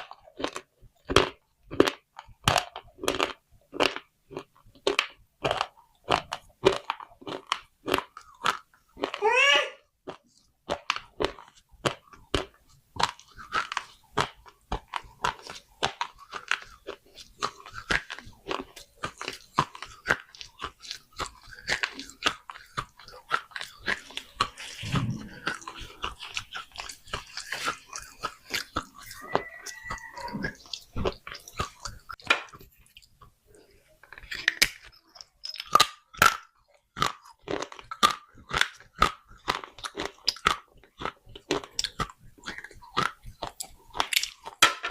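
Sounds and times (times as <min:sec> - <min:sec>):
clay pots being chewed: 0:00.0 - 0:09.2, 0:09.9 - 0:44.9.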